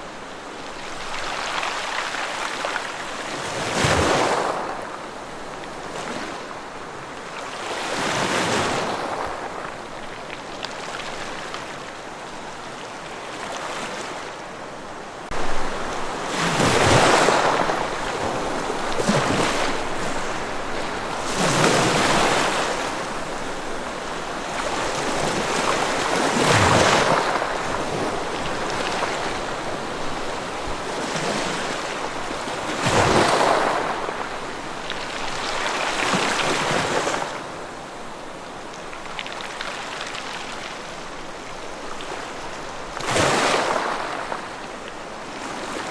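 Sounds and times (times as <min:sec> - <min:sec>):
ocean waves breaking: 0:00.0 - 0:38.3, 0:39.1 - 0:45.9.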